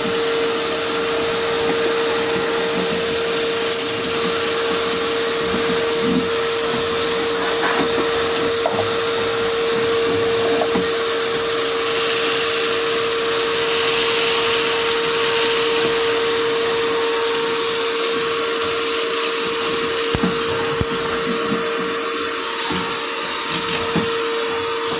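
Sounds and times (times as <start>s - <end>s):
shop vac running: 0.0s - 24.9s.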